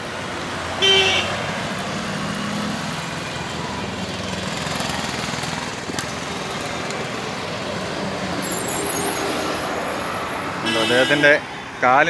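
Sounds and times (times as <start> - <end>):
vehicle engines and road noise: 0.0 - 12.0.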